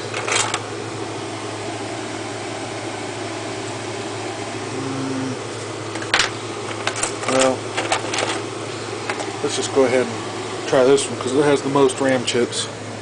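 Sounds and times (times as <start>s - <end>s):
fan hiss: 0.0s - 13.0s
low electrical hum: 0.0s - 13.0s.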